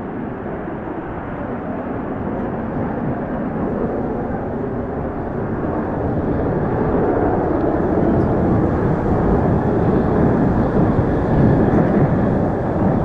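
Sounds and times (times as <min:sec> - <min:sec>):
fighter jet roar: 0:00.0 - 0:13.0.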